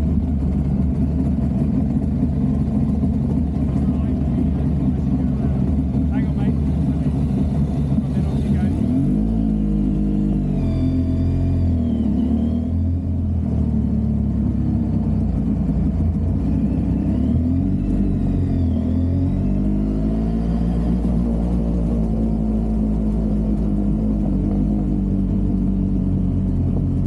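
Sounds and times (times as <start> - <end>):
motorcycle engine revving: 0.0 - 27.0
road and wind noise: 0.0 - 27.0.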